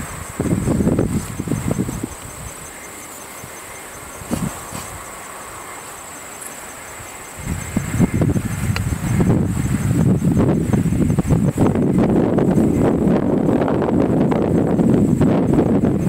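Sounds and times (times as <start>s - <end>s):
high-pitched insect trill: 0.0s - 16.0s
wind rumbling on microphone: 0.0s - 16.0s.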